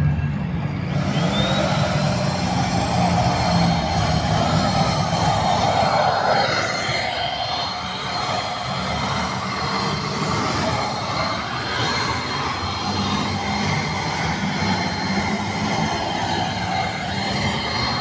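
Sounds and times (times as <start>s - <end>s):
paint sprayer turbine blowing: 0.7s - 18.0s.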